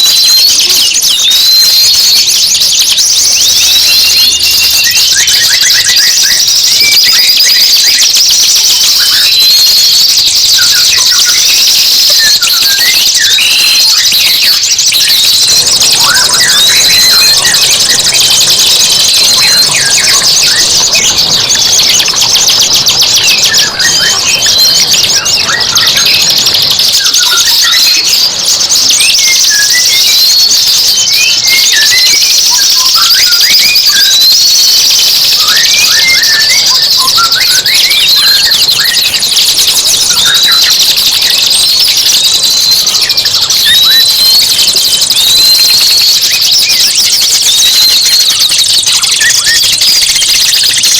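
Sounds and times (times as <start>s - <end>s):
dense birdsong: 0.0s - 50.9s.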